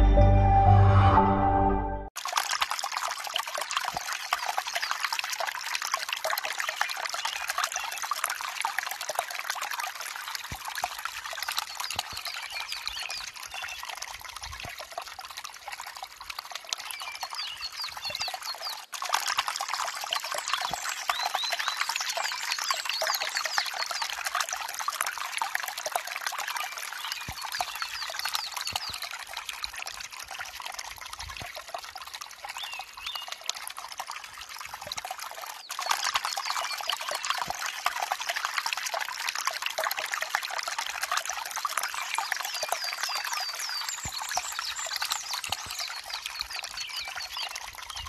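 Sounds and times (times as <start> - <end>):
stream trickling over stones: 2.2 - 48.0.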